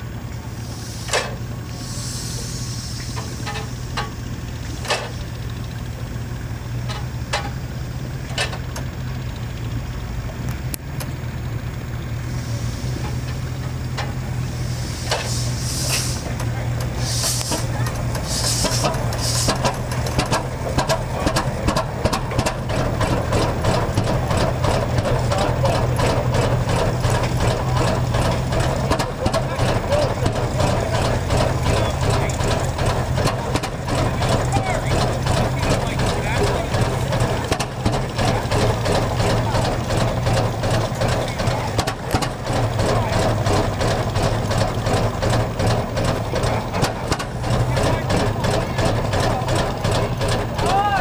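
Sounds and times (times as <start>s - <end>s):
tractor engine firing unevenly: 0.0s - 51.0s
sharp exhaust pops: 1.0s - 5.8s, 12.3s - 51.0s.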